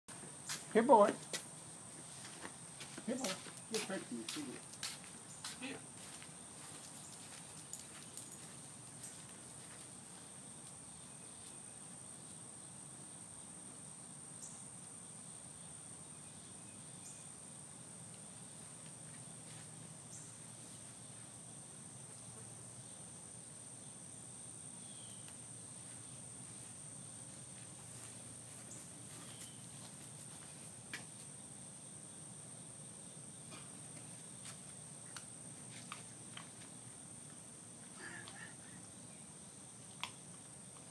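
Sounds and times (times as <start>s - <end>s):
high-pitched insect chorus: 0.3s - 40.9s.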